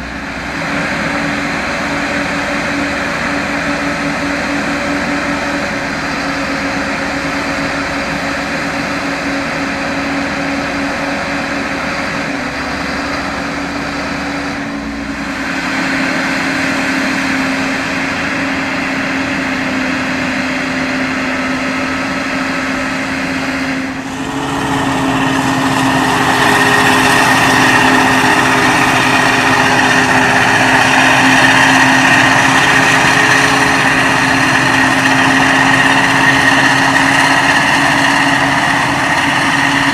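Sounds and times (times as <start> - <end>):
harvester diesel engines running: 0.0 - 39.9
high machinery whine: 0.0 - 39.9.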